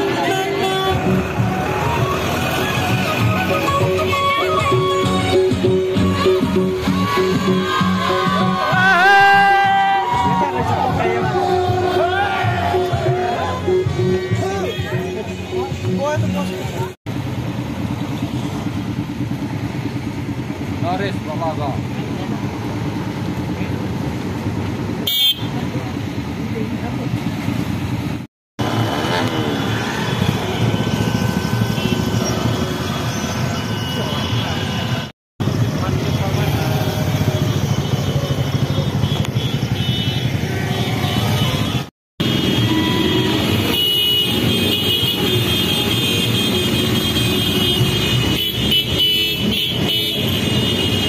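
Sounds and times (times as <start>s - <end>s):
motorcycle engines rumbling: 0.0s - 51.0s.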